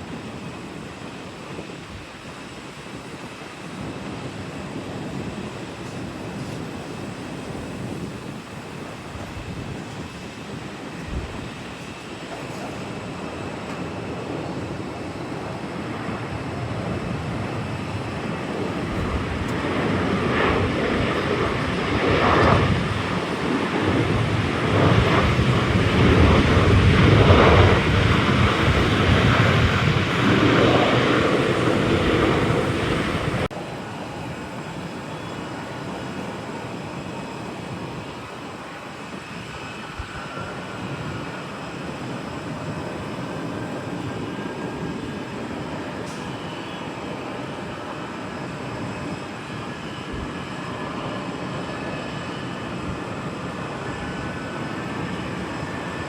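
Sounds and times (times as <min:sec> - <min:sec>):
airliner engine rumble: 0:00.0 - 0:56.0
wind buffeting microphone: 0:00.0 - 0:56.0.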